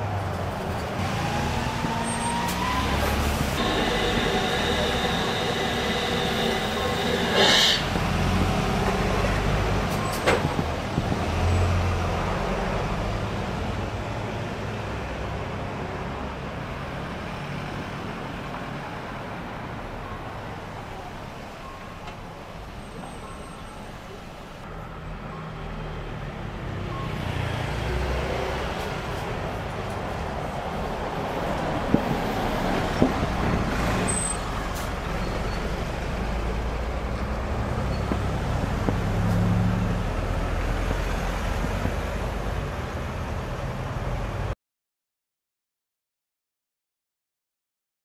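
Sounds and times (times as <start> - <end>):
bus engine: 0.0 - 44.6
vehicles passing close by: 0.0 - 44.6.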